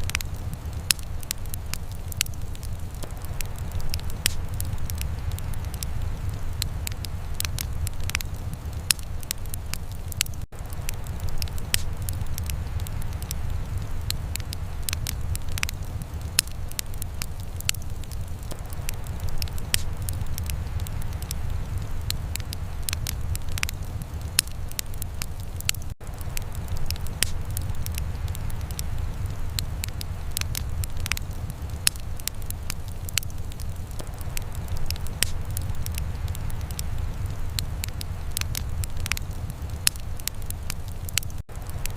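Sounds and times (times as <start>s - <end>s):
steady low rumble: 0.0s - 41.9s
wood fire crackling and popping: 0.0s - 41.9s.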